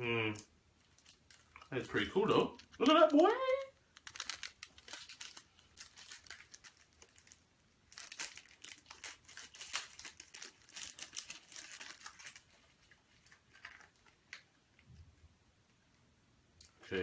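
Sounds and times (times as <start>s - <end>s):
plastic packaging crinkling: 0.8s - 14.6s.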